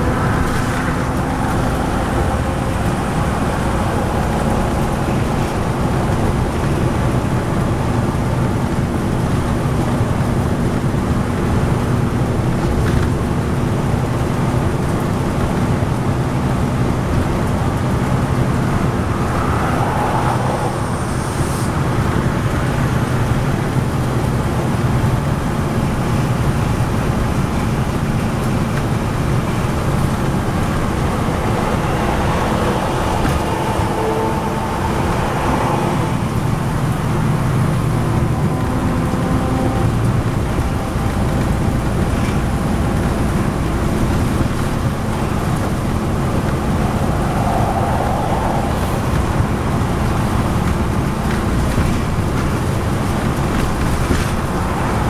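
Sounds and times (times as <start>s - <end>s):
diesel bus engine drone: 0.0s - 55.0s
tyre and road noise: 0.0s - 55.0s.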